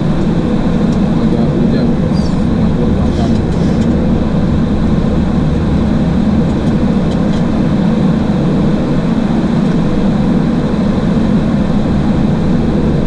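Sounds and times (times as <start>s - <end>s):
aircraft cockpit engine rumble: 0.0s - 13.0s.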